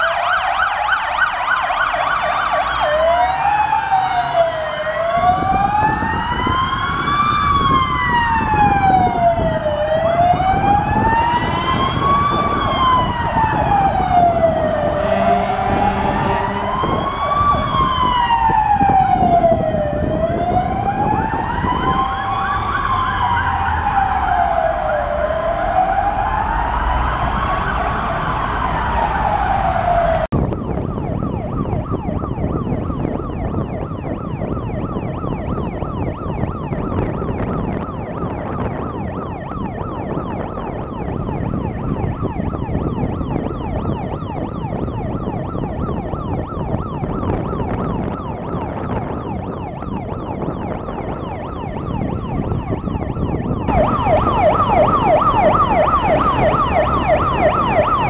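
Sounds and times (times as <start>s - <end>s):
siren wailing: 0.0s - 58.0s
siren yelping: 0.0s - 58.0s
traffic rumble: 0.0s - 58.0s.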